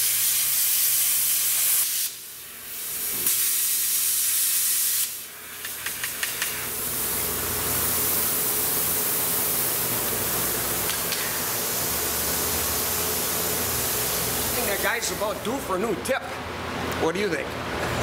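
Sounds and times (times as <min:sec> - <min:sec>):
compressed air hissing through torch: 0:00.0 - 0:15.4.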